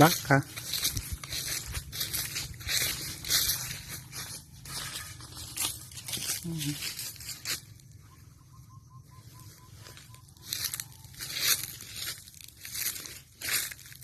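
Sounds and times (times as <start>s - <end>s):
footsteps through dry grass: 0.0s - 8.5s, 9.1s - 14.0s.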